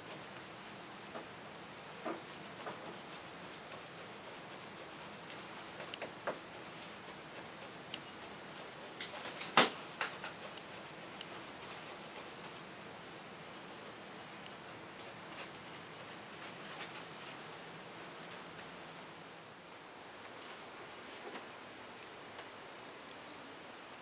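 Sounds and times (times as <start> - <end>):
steady faint hiss: 0.0 - 24.0.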